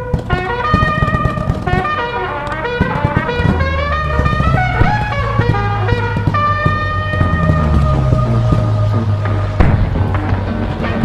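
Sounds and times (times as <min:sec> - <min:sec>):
brass instruments playing melody: 0:00.0 - 0:11.0.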